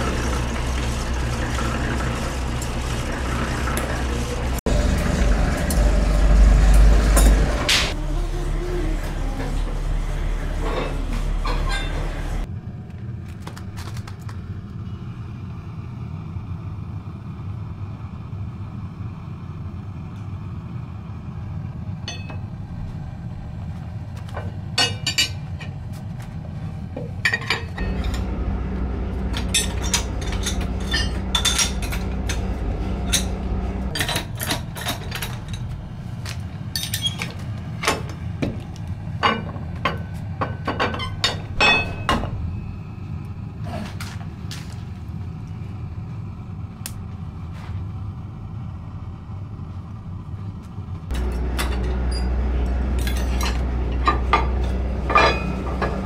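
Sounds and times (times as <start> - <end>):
factory machinery humming: 0.0 - 56.0.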